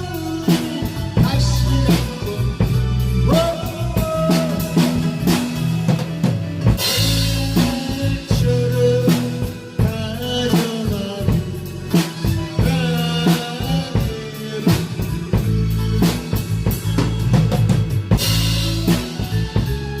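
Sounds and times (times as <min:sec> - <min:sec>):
backing track melody: 0:00.0 - 0:20.0
drum kit playing: 0:00.0 - 0:20.0.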